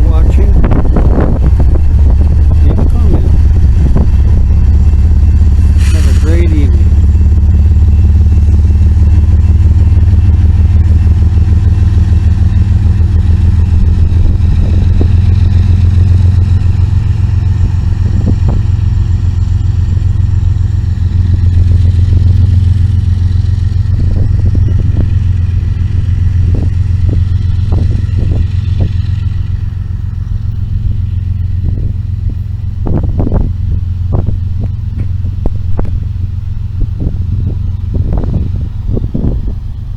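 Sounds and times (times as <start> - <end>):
diesel locomotive rumble: 0.0 - 39.9.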